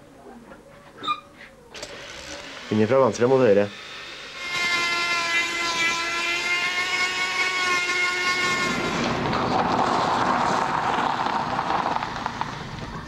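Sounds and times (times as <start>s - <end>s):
rotary grinder whining and grinding: 1.7s - 13.0s.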